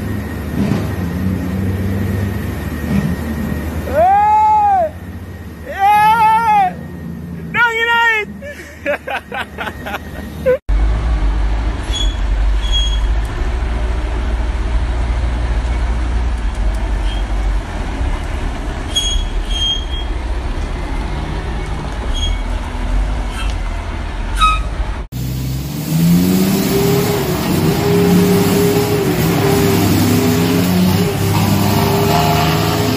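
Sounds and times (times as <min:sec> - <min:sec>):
truck engine revving: 0:00.0 - 0:04.0, 0:09.8 - 0:32.9
diesel truck engine rumbling: 0:00.0 - 0:32.9.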